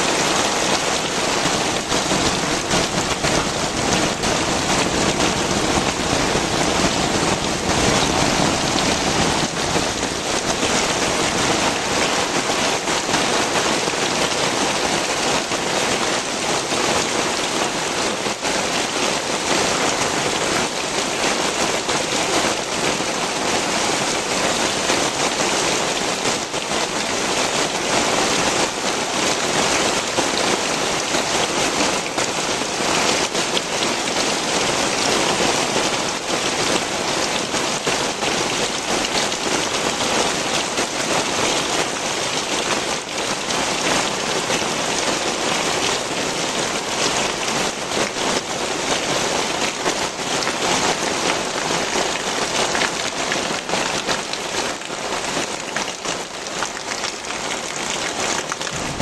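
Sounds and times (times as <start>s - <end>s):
heavy rain pouring: 0.0s - 59.0s
raindrops splashing onto surfaces: 0.0s - 59.0s.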